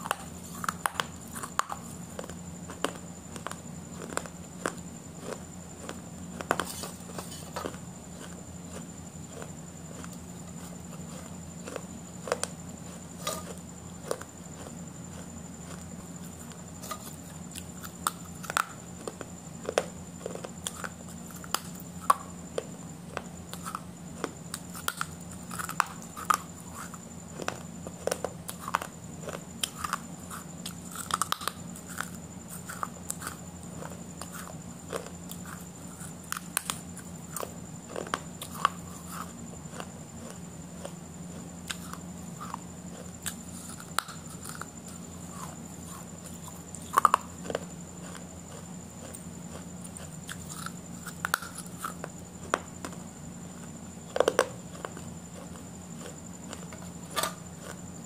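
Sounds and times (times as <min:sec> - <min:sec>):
person chewing food: 0:00.0 - 0:53.0, 0:53.6 - 0:57.9.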